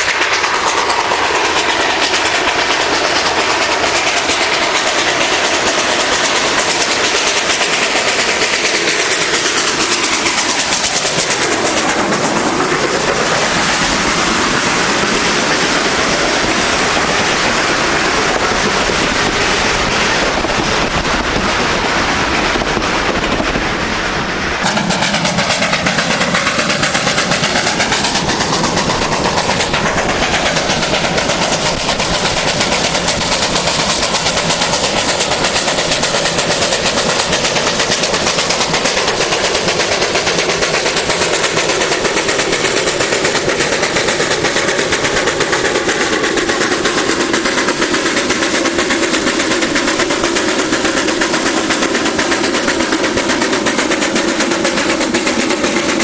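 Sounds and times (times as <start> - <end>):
train wheels rattling on rails: 0.0 - 56.0.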